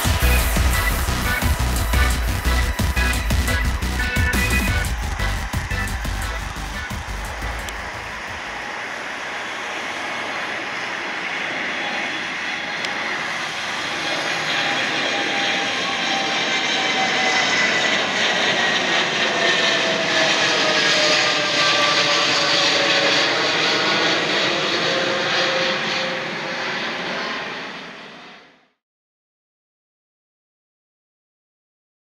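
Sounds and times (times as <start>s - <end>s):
jet airliner passing overhead: 0.0s - 28.8s.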